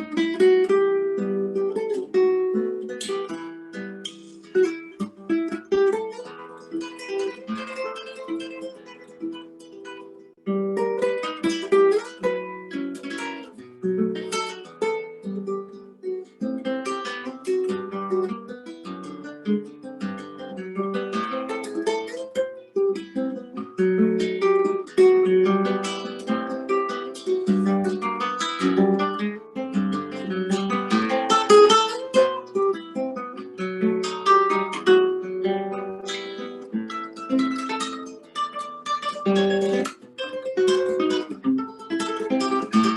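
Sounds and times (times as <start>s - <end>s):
acoustic guitar waltz: 0.0s - 42.9s.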